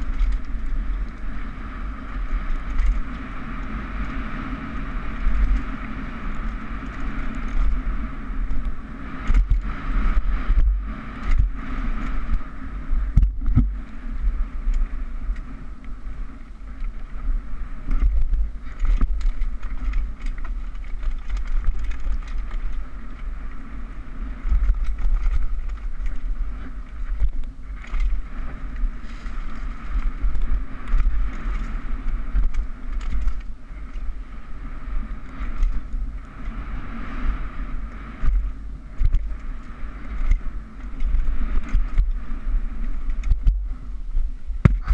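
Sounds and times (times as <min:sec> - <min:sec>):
bike rattling over bumps: 0:00.0 - 0:44.9
tyres and wind rumble: 0:00.0 - 0:44.9.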